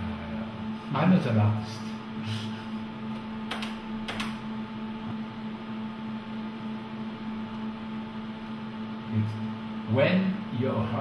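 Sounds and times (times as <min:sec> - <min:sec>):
electrical hum of equipment: 0:00.0 - 0:11.0
faint high whine: 0:00.0 - 0:11.0.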